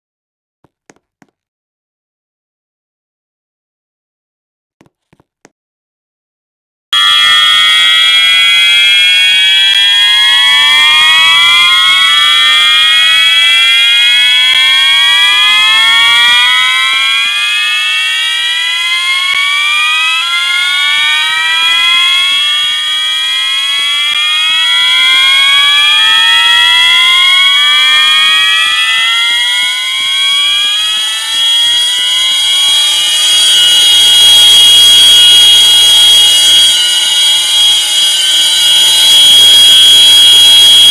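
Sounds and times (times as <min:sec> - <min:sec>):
fire alarm horns whooping: 0:07.0 - 0:40.9
steady high-pitched tone: 0:07.0 - 0:40.9.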